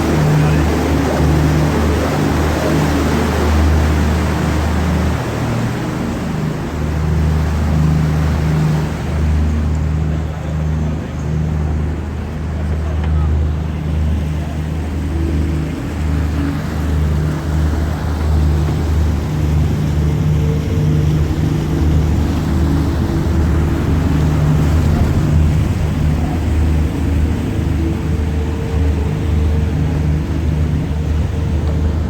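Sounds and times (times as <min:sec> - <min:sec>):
boat engine humming: 0:00.0 - 0:32.0
steady rushing noise: 0:00.0 - 0:32.0.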